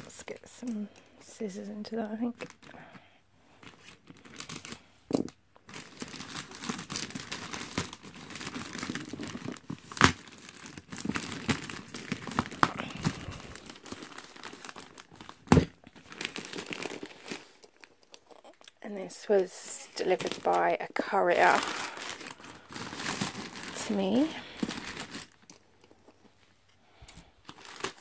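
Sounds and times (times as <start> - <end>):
packaging crinkling and tearing: 2.4 - 2.8, 3.5 - 18.8, 19.9 - 26.5, 27.1 - 28.0.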